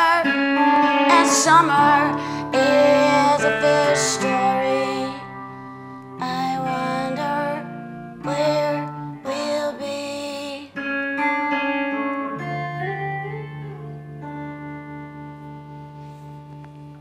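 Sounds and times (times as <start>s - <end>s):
wordless wavering singing: 0.0s - 16.0s
clean electric guitar chords: 0.0s - 17.0s.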